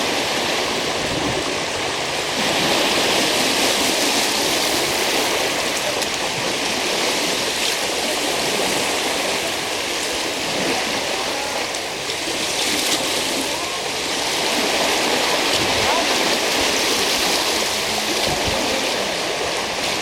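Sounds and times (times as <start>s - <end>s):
waves washing onto beach: 0.0s - 20.0s.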